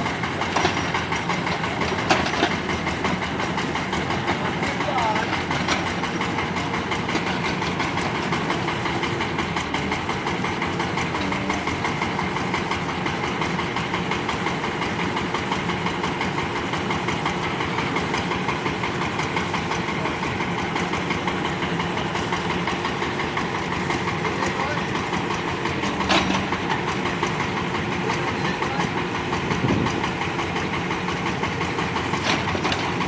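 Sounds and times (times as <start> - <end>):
excavator diesel engine knocking: 0.0 - 33.0.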